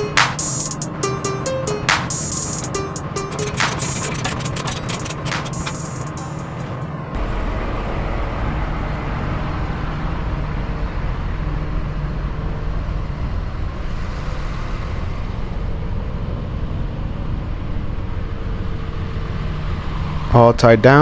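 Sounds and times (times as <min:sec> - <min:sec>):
heavy vehicle engine droning: 0:00.0 - 0:21.0.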